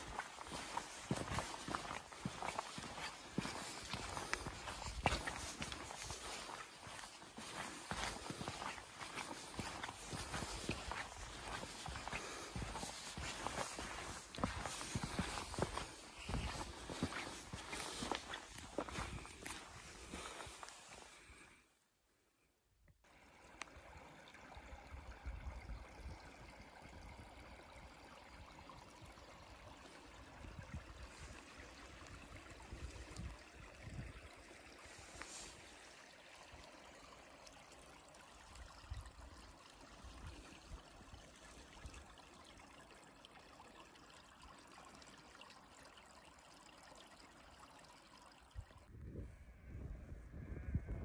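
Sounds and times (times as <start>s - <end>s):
stream water running: 0.0s - 21.8s, 23.0s - 49.2s.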